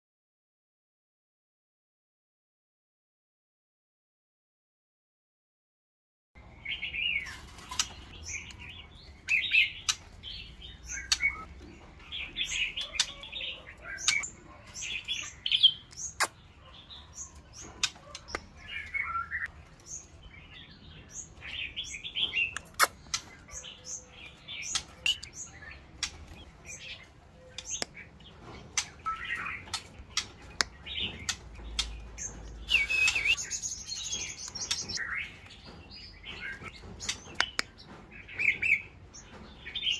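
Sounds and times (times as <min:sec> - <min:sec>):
bird chirping and singing: 0:06.4 - 0:39.9.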